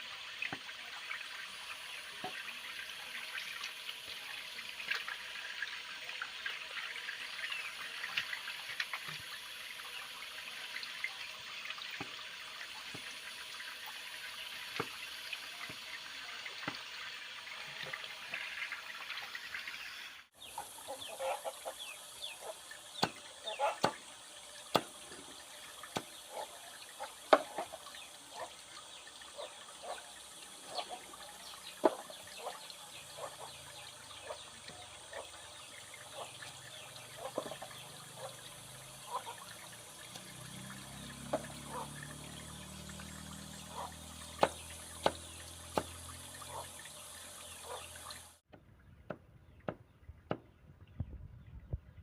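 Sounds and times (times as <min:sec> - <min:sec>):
running splashing water: 0:00.0 - 0:48.5.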